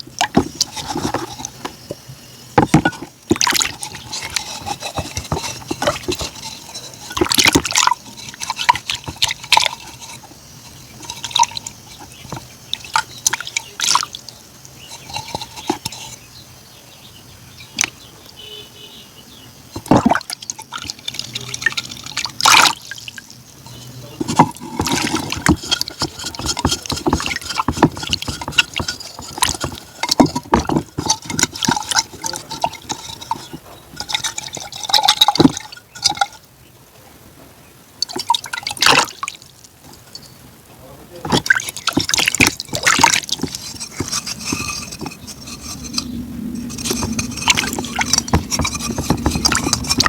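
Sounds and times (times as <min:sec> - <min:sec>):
crunching and slurping ice cream: 0:00.0 - 0:16.4, 0:19.8 - 0:36.4, 0:41.1 - 0:50.0.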